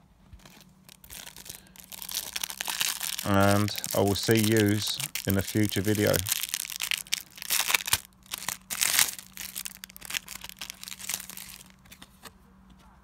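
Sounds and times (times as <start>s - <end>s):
crinkly packaging crackling: 0.3s - 12.3s.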